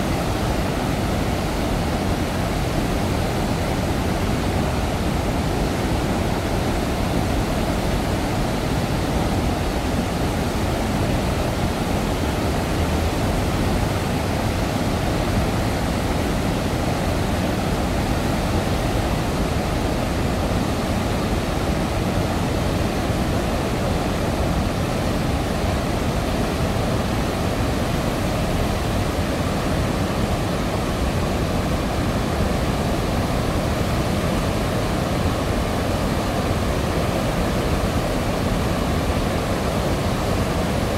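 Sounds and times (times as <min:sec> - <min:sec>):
floodwater roaring from spillway: 0:00.0 - 0:40.9.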